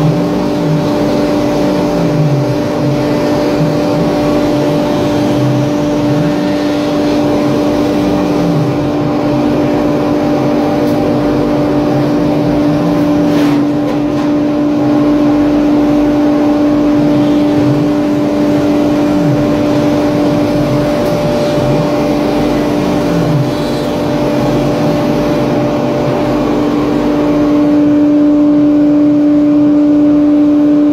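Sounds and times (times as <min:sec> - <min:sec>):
spindle running with high whine: 0:00.0 - 0:30.9.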